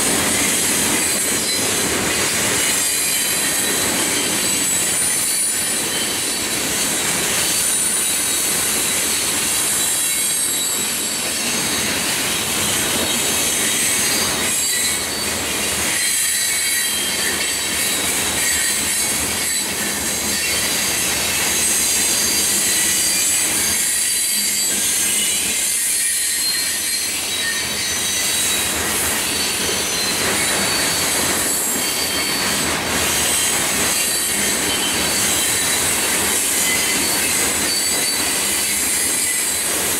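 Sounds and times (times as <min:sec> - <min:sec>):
freight cars rolling on rails: 0:00.0 - 0:39.9
wheels squealing on rails: 0:00.0 - 0:39.9.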